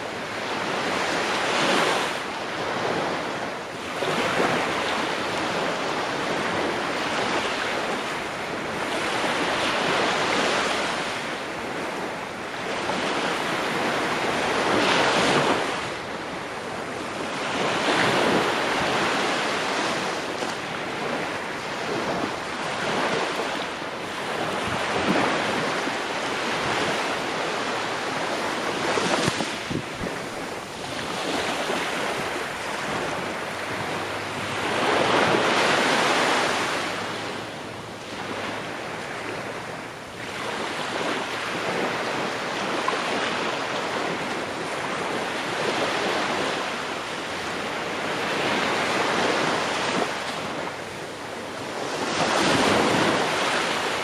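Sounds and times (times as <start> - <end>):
ocean waves washing in: 0.0 - 54.0.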